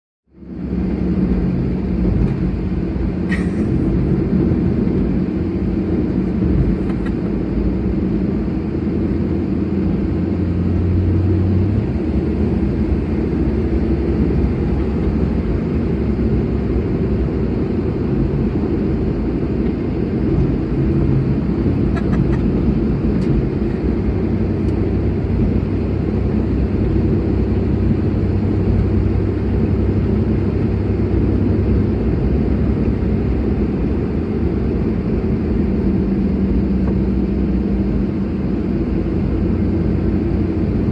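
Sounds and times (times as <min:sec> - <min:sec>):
engine running steadily: 0:00.3 - 0:40.9.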